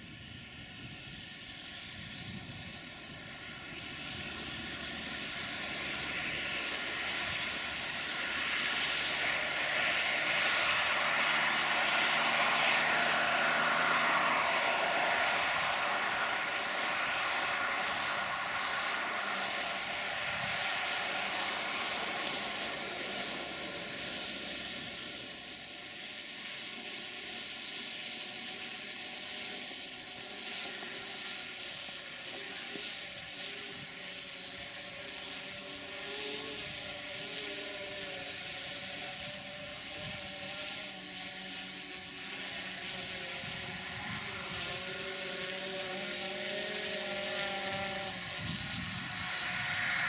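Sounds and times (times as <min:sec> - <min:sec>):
drone propellers buzzing: 0:00.0 - 0:50.0.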